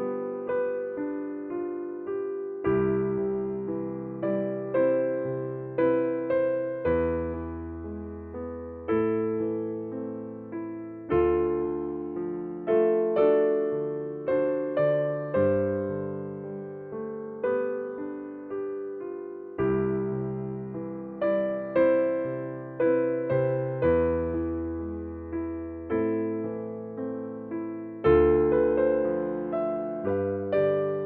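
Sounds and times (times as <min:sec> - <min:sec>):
slow gentle piano chords: 0:00.0 - 0:31.0.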